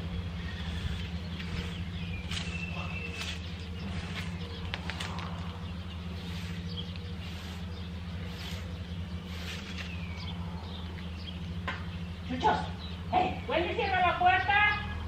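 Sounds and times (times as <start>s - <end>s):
birds chirping: 0.0s - 15.0s
low motor hum: 0.0s - 15.0s.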